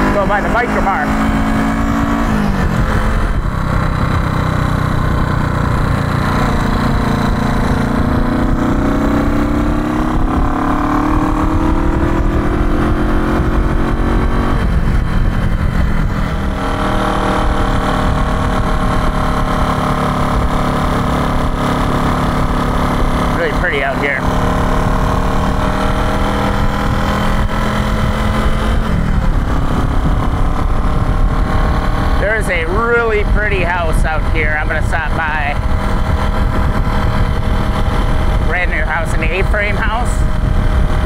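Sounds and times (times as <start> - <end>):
motorcycle engine running: 0.0 - 41.0
wind rumble on microphone: 0.0 - 41.0.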